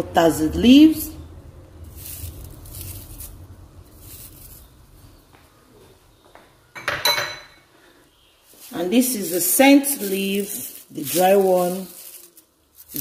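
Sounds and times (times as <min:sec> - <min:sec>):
dried leaves rustling: 0:00.4 - 0:06.2, 0:07.8 - 0:13.0.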